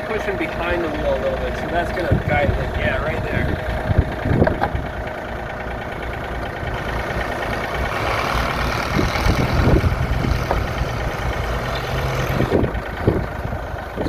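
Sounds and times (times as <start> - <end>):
excavator diesel engine running: 0.0 - 14.0
steel track knocking: 0.0 - 14.0.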